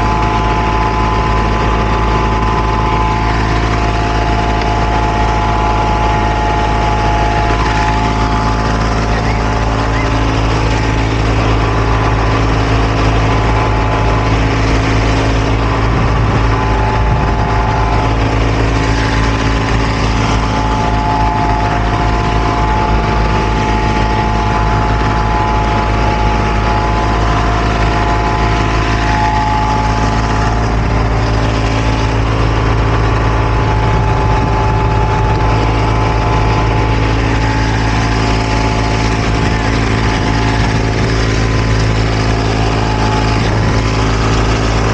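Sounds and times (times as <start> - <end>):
heavy machinery engine droning: 0.0 - 44.9
high-pitched machine whine: 0.0 - 44.9.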